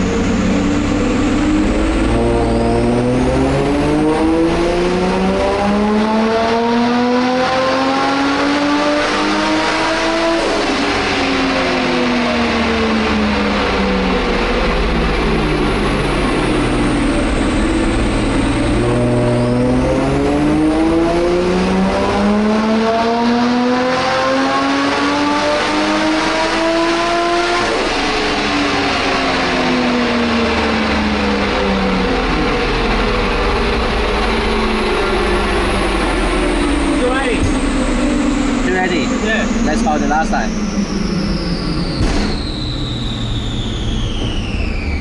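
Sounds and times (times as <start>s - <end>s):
turbocharged car engine revving: 0.0s - 45.0s.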